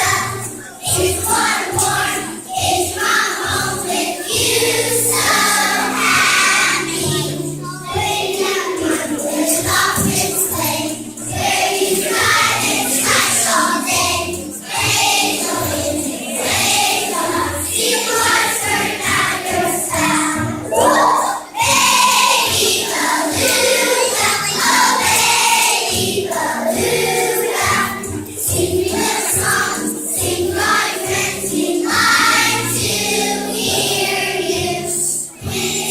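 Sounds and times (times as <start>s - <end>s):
choir singing with accompaniment: 0.0s - 35.9s.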